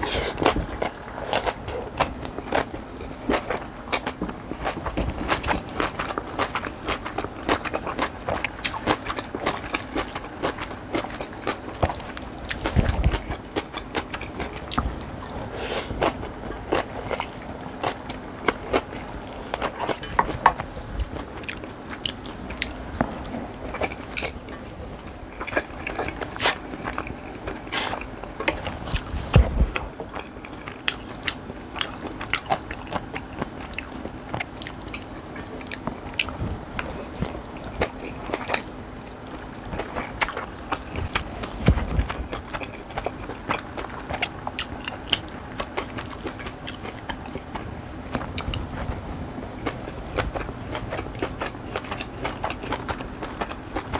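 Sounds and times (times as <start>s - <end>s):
faint steady hum: 0.0s - 53.9s
person chewing and crunching food: 0.0s - 53.9s.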